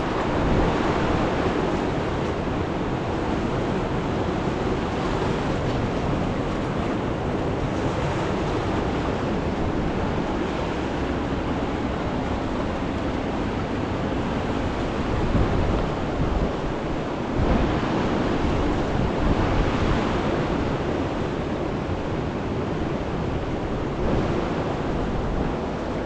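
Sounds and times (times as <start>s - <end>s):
river roaring: 0.0s - 26.0s
wind: 0.0s - 26.0s.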